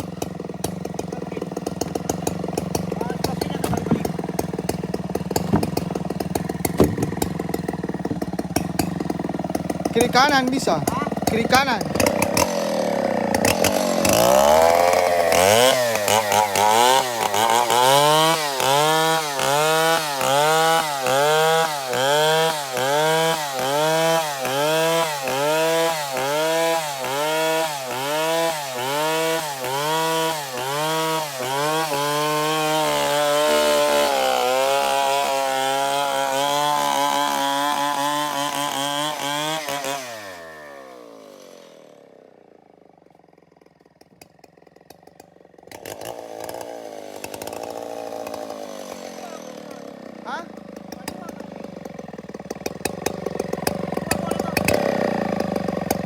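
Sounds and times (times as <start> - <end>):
chainsaw cutting timber: 0.0 - 56.0.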